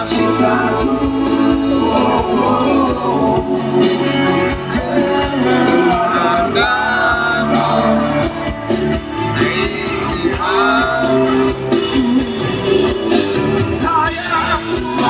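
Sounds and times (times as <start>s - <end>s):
live rock band with singing: 0.0s - 15.0s.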